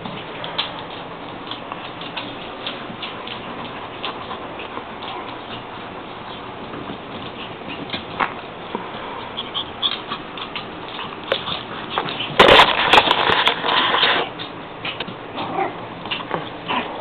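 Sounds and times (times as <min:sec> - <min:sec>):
animals scuffling: 0:00.0 - 0:17.0.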